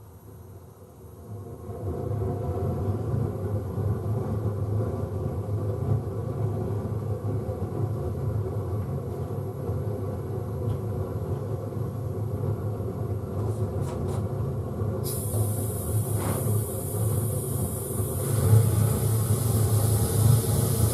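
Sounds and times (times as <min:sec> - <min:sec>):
furnace burner rumble: 0:01.0 - 0:20.9.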